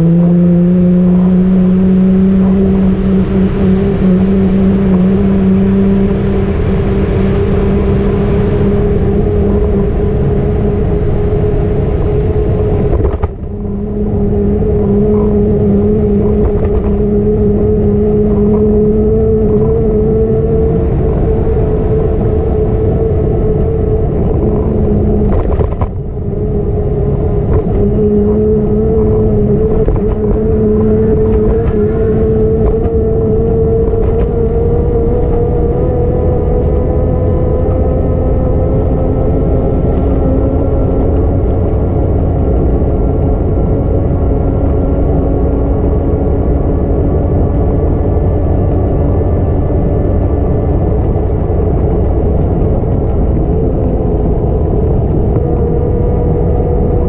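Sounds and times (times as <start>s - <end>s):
rising whine: 0.0s - 57.0s
vehicle ride rumble: 0.0s - 57.0s.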